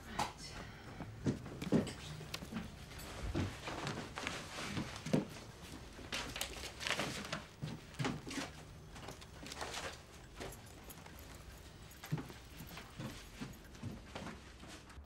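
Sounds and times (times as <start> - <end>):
footsteps and soft knocks: 0.0 - 15.0
things handled at a desk: 1.0 - 15.0
coat and bag rustling: 1.2 - 15.0.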